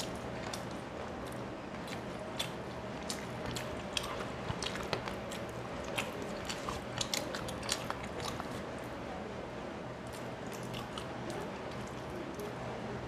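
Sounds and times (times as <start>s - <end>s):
wet chewing and mouth smacks: 0.0s - 8.7s, 10.0s - 12.5s.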